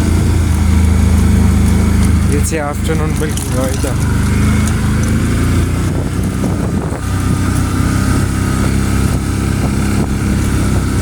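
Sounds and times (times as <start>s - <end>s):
small engine running at low revs: 0.0s - 11.0s.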